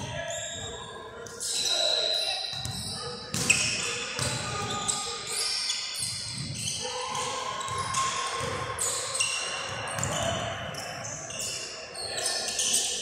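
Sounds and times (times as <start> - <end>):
sneakers squeaking on floor: 0.0 - 13.0
voices echoing: 0.0 - 13.0.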